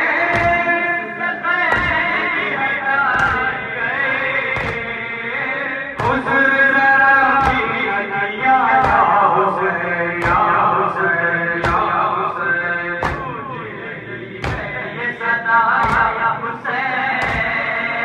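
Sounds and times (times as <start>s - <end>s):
crowd beating chests: 0.0s - 18.0s
men chanting a lament: 0.0s - 18.0s.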